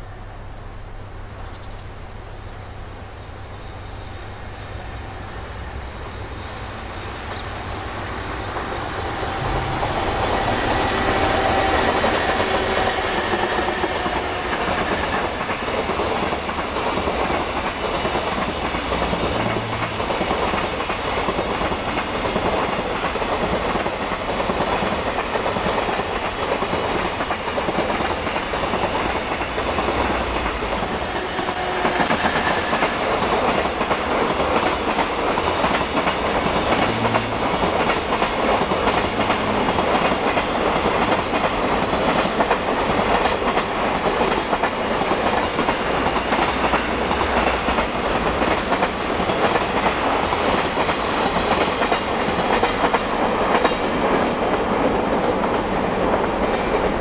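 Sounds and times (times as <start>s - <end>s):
freight train passing: 0.0s - 57.0s
wheels clacking over rail joints: 6.9s - 54.8s.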